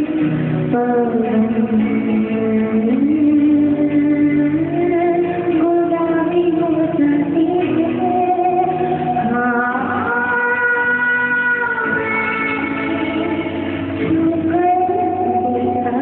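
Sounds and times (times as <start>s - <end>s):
backing music: 0.0s - 16.0s
woman singing into a microphone: 0.0s - 16.0s.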